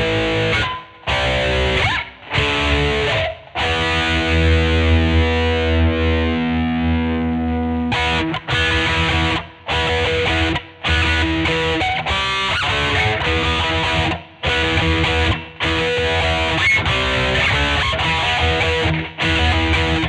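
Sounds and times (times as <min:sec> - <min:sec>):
electric guitar single notes: 0:00.0 - 0:20.0
electric guitar strummed chords: 0:00.0 - 0:20.0.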